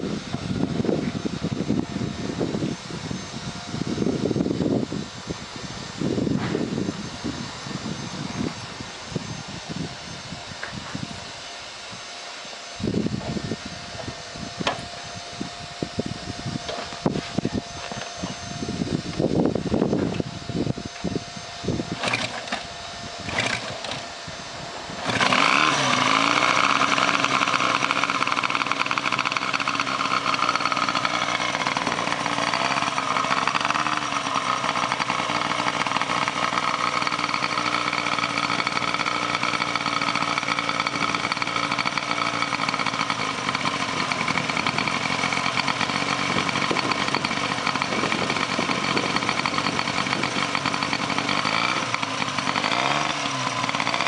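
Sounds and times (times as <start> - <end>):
motorcycle engine starting: 0.0 - 11.1, 12.7 - 54.0.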